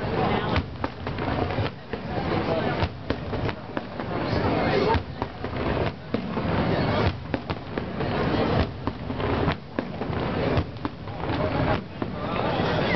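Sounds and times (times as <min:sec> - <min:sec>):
fireworks bangs: 0:00.0 - 0:12.9
fireworks rumble: 0:00.0 - 0:12.9.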